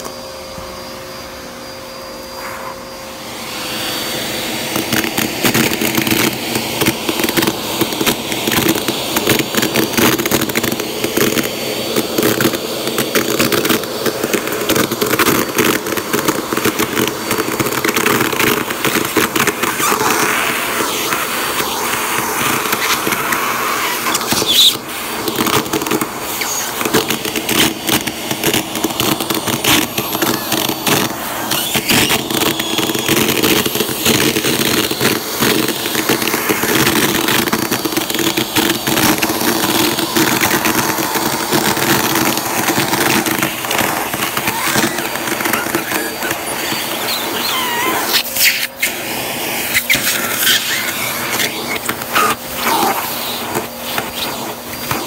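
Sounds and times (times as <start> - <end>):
vacuum cleaner running: 0.0 - 55.0
tissue paper crackling in hose: 3.6 - 55.0.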